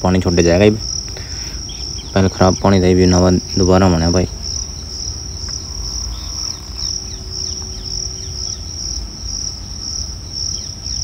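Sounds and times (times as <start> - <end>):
insects trilling: 0.0 - 11.0
low rumble: 1.6 - 11.0.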